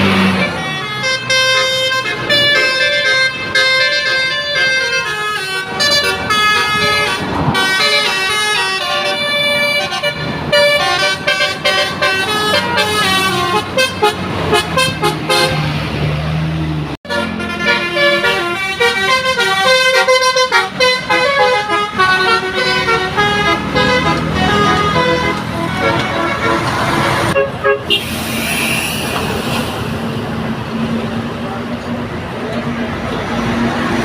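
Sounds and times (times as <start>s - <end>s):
bus air horns playing melodic tunes: 0.0s - 15.8s, 17.0s - 29.9s
bus engine: 0.0s - 34.0s.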